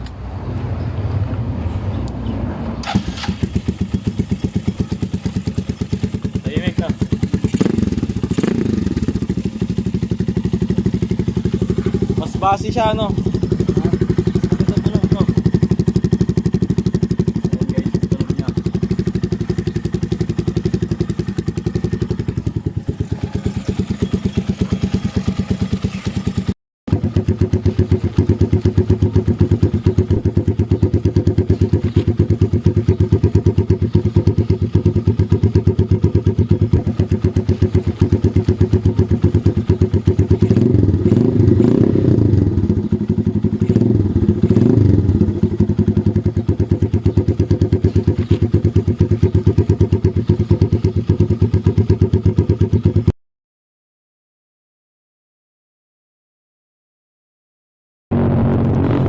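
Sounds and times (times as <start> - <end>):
motorcycle throttle blips: 2.0 - 52.3
motorcycle engine idling: 2.8 - 53.1.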